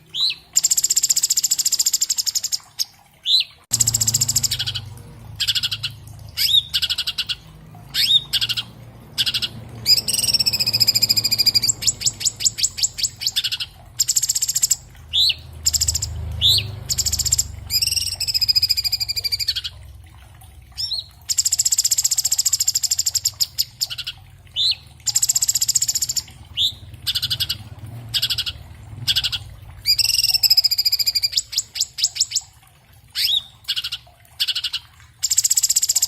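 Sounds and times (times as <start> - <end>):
bird singing buzzy trills: 0.0 - 19.8, 20.8 - 32.5, 33.1 - 36.0.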